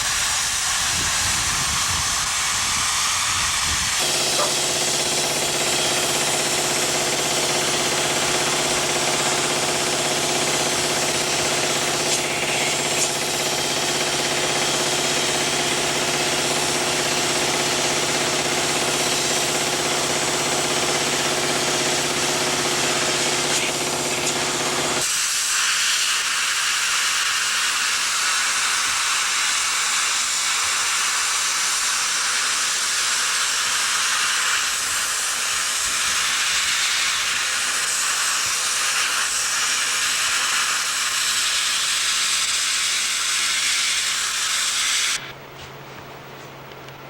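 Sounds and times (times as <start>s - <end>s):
loud high-pitched hiss: 0.0s - 45.3s.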